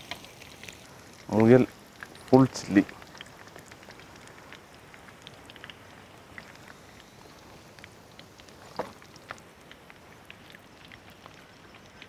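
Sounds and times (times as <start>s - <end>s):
deep-frying oil sizzling: 0.0s - 12.0s.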